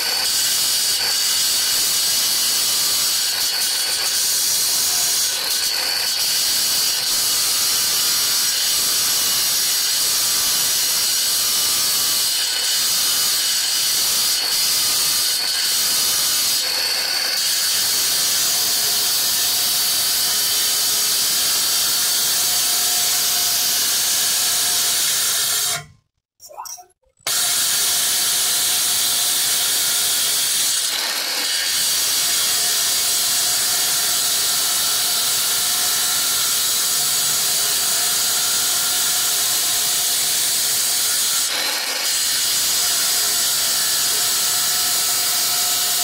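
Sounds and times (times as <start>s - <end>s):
marble cutter whining through stone: 0.0s - 26.0s, 27.2s - 46.0s.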